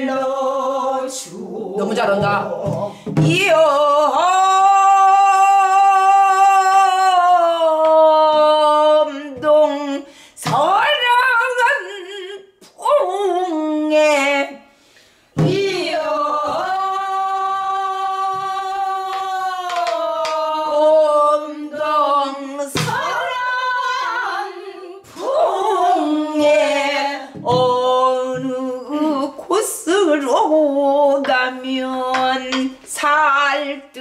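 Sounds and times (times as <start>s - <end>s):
woman singing: 0.0s - 14.7s, 15.4s - 34.0s.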